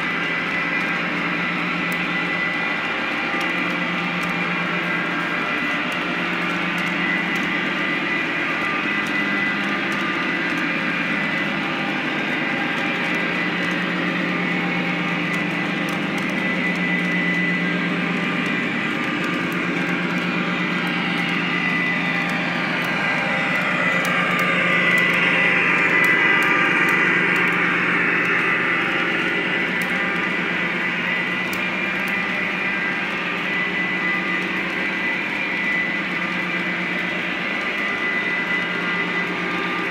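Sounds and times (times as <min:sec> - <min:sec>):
model train wheels rumbling on rails: 0:00.0 - 0:39.9.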